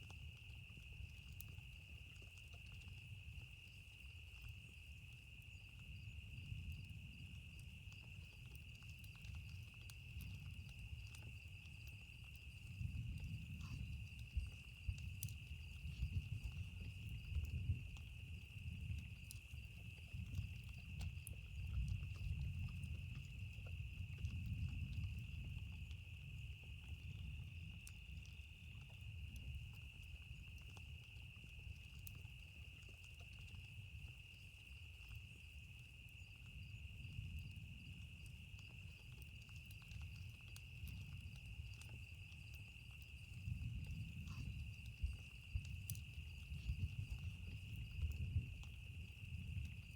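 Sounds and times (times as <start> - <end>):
campfire crackling and popping: 0.0 - 49.9
insects droning: 0.0 - 49.9.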